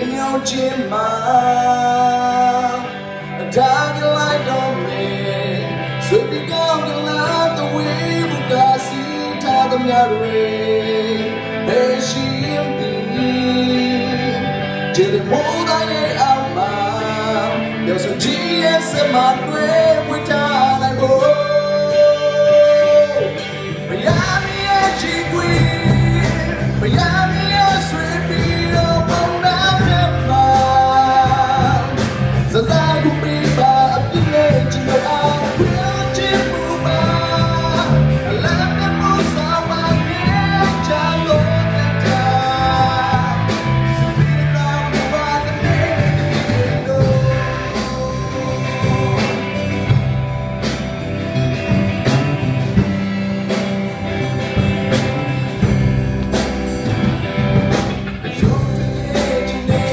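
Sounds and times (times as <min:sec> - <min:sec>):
man singing into a microphone: 0:00.0 - 0:50.3, 0:58.2 - 0:59.9
drums: 0:00.0 - 0:59.9
electric bass: 0:00.0 - 0:59.9.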